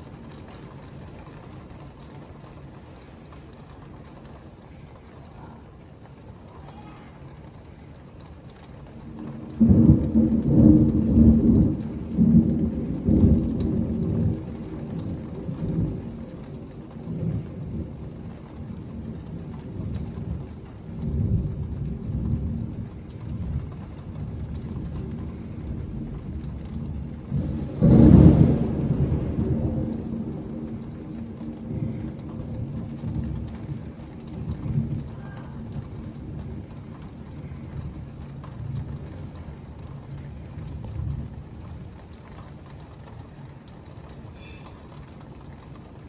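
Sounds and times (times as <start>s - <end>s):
heavy rain: 0.0s - 46.0s
thunder rumbling: 0.0s - 46.0s.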